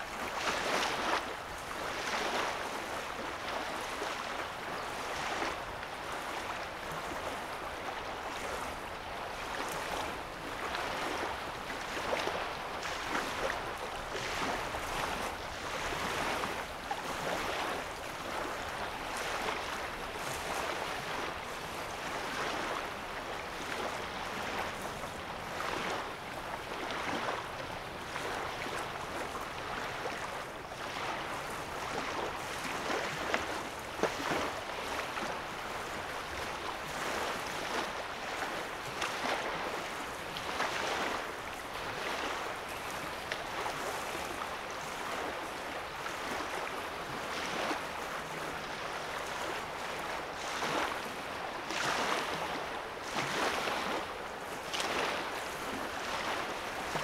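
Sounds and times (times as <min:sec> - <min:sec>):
lake waves lapping on sand: 0:00.0 - 0:57.0.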